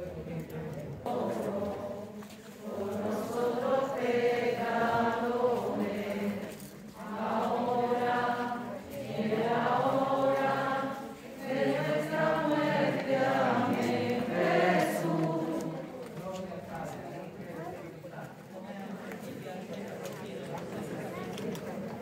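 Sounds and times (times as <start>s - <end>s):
crowd chanting prayers: 0.0s - 22.0s.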